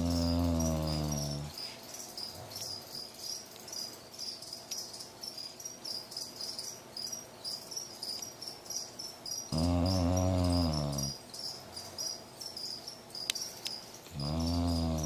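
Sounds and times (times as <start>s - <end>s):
faint high chirping: 0.0s - 15.0s.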